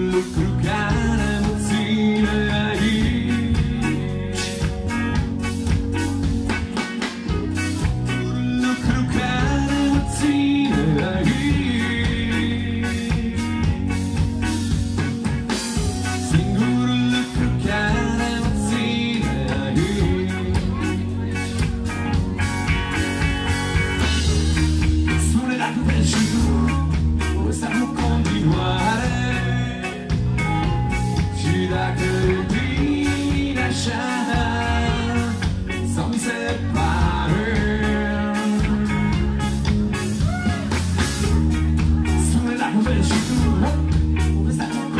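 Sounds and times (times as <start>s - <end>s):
bass guitar: 0.0s - 44.9s
distorted electric guitars: 0.0s - 44.9s
drums: 0.0s - 44.9s.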